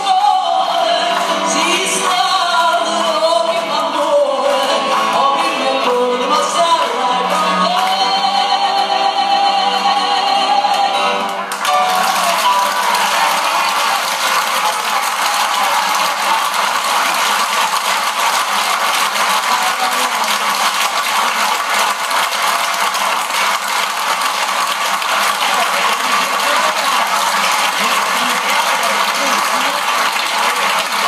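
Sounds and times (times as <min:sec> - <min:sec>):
audience clapping: 0:00.0 - 0:31.0.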